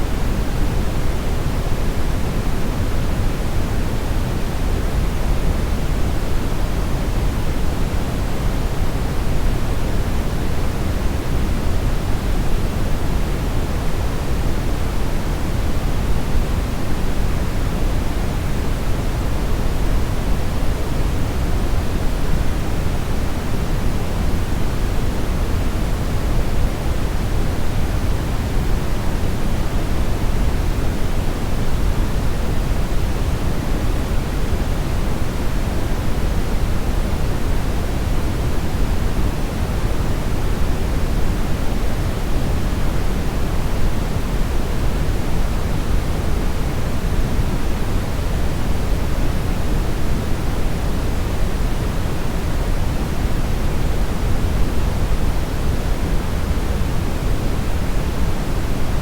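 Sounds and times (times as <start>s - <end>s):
brown noise hiss: 0.0s - 59.0s.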